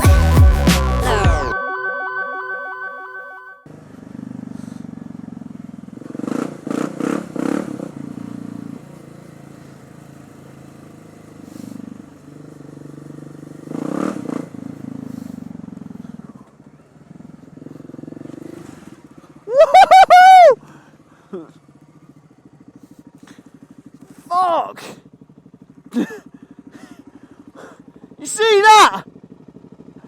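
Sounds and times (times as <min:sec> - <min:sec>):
motorcycle engine running: 0:03.7 - 0:30.0.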